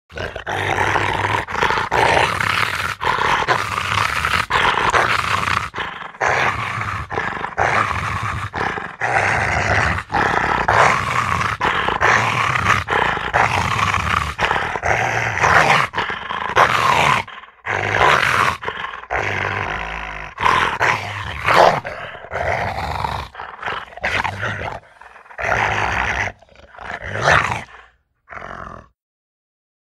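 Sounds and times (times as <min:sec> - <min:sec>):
dog growling: 0:00.1 - 0:29.0.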